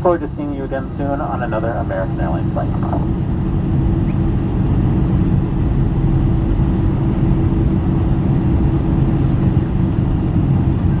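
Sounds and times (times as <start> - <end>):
aircraft cabin rumble: 0.0 - 11.0
jet engines humming at idle: 0.0 - 11.0.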